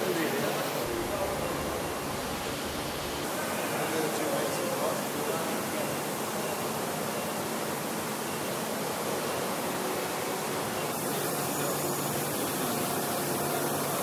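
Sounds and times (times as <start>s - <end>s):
factory hall background hiss: 0.0s - 14.0s.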